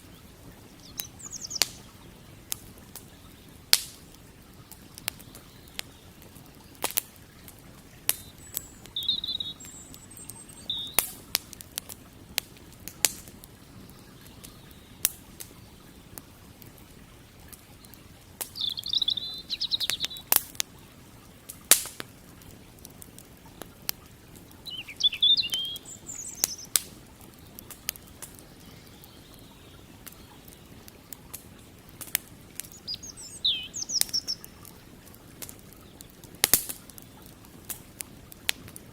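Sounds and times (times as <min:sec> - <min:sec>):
small birds chirping: 0:00.0 - 0:21.8, 0:22.4 - 0:38.9
campfire crackling and popping: 0:00.0 - 0:38.9.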